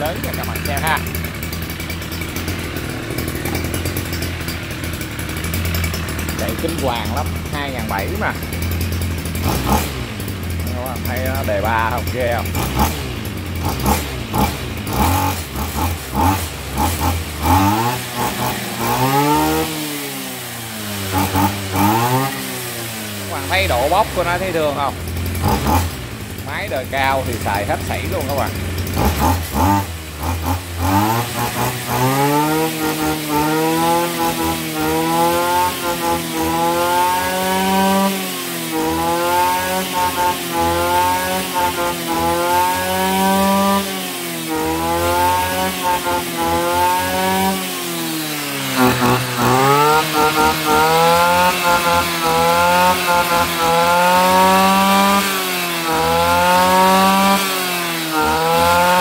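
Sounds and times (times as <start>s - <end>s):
brush cutter engine revving: 0.0s - 59.0s.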